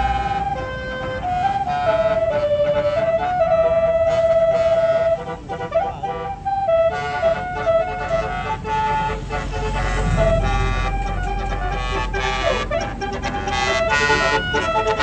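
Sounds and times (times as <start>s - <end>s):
bus engine rumbling: 0.0s - 15.0s
bus horn playing tune: 0.0s - 15.0s.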